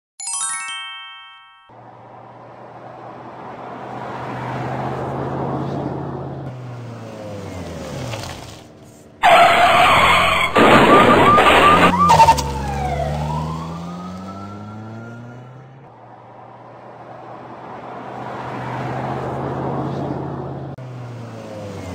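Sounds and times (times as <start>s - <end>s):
car engine passing by: 1.8s - 9.4s, 11.9s - 21.9s
tyres screeching and skidding: 1.8s - 21.9s.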